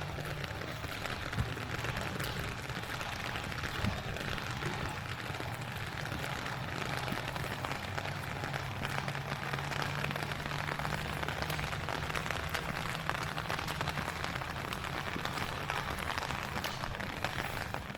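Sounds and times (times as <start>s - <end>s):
heavy rain on a wet surface: 0.0s - 17.9s.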